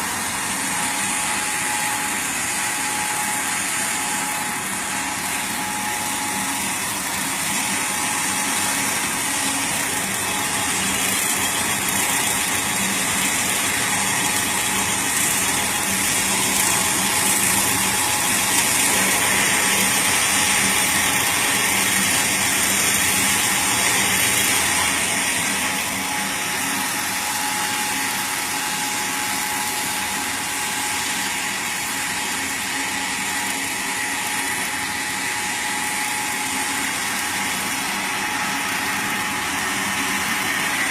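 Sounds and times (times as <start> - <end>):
feed machine mechanical drone: 0.0 - 40.9.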